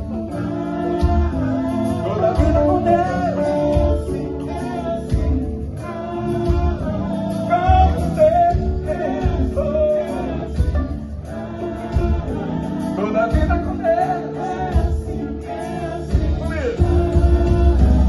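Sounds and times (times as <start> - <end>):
person singing: 0.0 - 15.5
gospel band music: 0.0 - 18.0.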